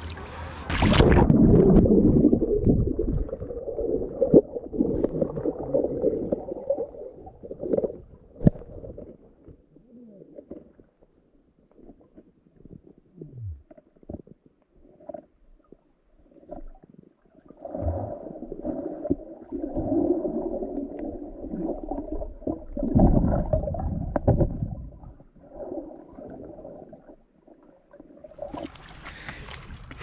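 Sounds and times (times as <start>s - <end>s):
muffled underwater rumbling and gurgling: 0.0s - 30.0s.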